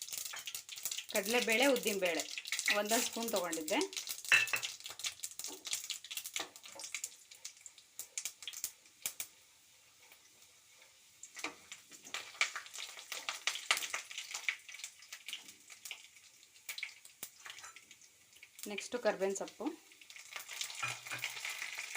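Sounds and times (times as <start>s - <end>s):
seeds popping in hot oil: 0.0s - 9.4s, 10.0s - 21.9s
faint sizzle: 0.0s - 21.9s.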